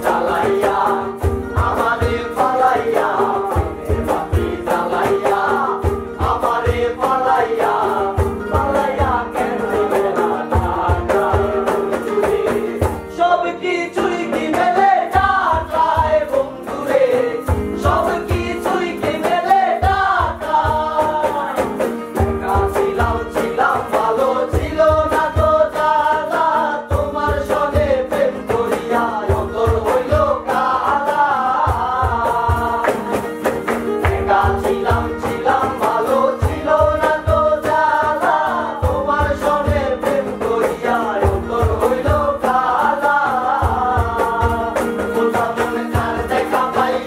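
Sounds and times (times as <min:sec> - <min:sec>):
hand drum beating: 0:00.0 - 0:13.2, 0:14.0 - 0:47.0
men singing in unison: 0:00.0 - 0:47.0
strummed acoustic guitar: 0:00.0 - 0:47.0
ukulele: 0:00.0 - 0:47.0.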